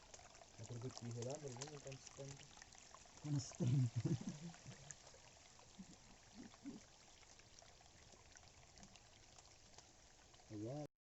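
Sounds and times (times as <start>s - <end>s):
running water: 0.0s - 10.9s.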